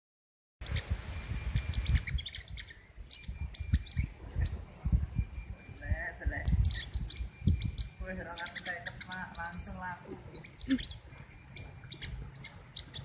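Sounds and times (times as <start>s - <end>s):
bird singing high chirps: 0.6s - 13.0s.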